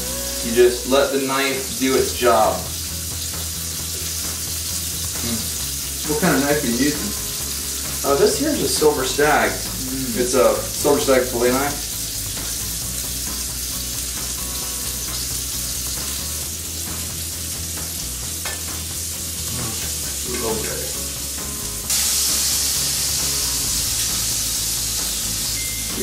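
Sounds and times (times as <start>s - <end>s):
food sizzling in frying pans: 0.0s - 26.0s.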